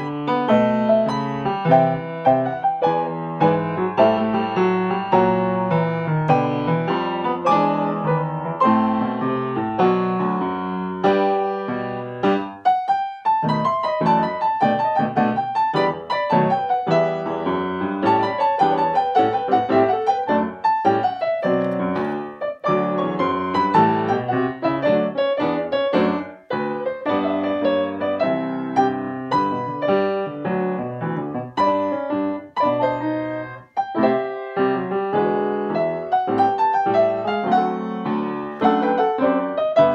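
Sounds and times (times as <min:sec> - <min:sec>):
piano duet: 0:00.0 - 0:39.9.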